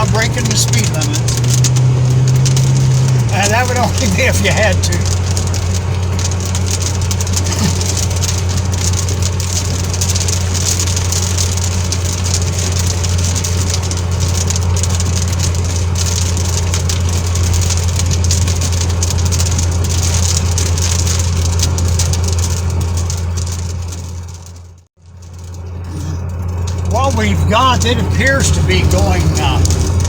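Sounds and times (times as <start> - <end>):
constant hiss: 0.0 - 23.6, 25.2 - 30.0
car engine and road hum: 0.0 - 30.0.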